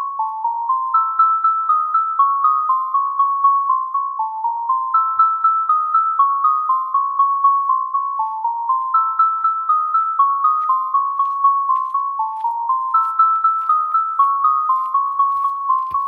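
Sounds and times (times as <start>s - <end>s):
mallet percussion melody: 0.0s - 16.0s.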